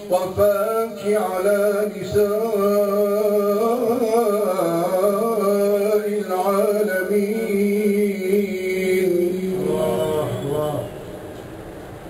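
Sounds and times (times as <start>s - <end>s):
man reciting in melodic chant: 0.0s - 11.2s.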